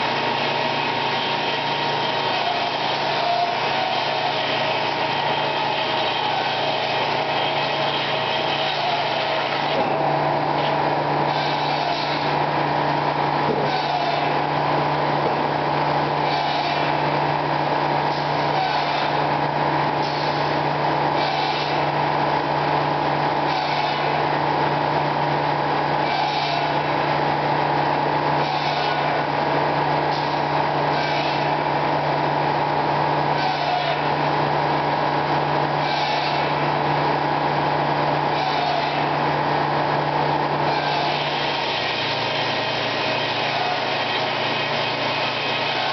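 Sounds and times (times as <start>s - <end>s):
sawmill hum and whine: 0.0s - 45.9s.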